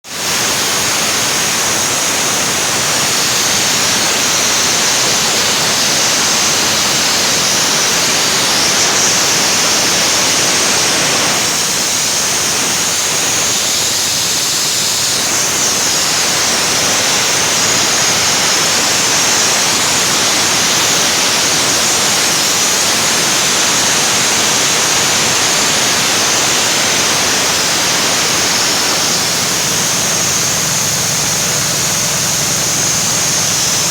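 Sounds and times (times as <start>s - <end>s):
compressor running with high hiss: 0.1s - 33.9s.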